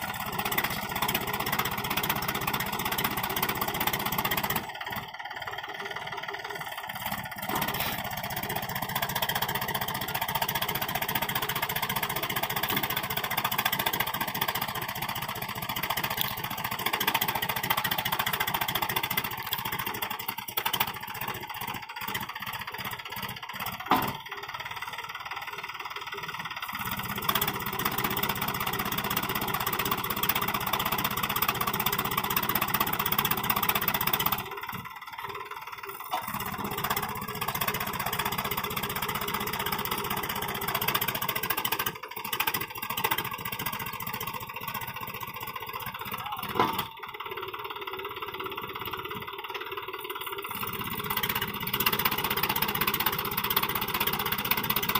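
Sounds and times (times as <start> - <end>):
tractor diesel engine revving: 0.0 - 54.9.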